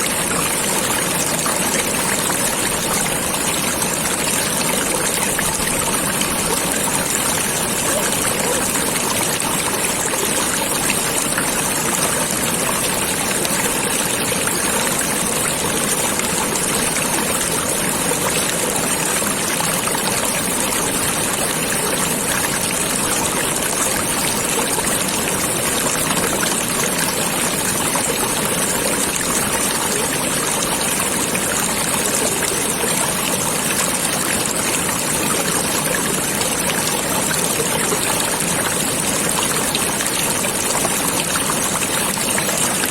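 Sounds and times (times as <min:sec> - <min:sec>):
stream water running: 0:00.0 - 0:42.9.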